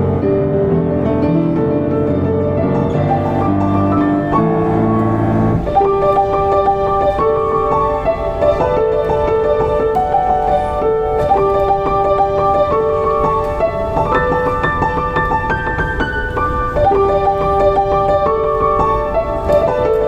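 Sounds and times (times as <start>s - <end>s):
grand piano playing: 0.0s - 20.0s.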